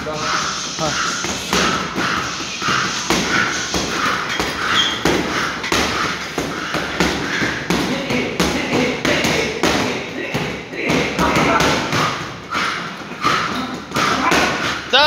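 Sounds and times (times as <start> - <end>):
gloves punching heavy bags: 1.1 - 15.0.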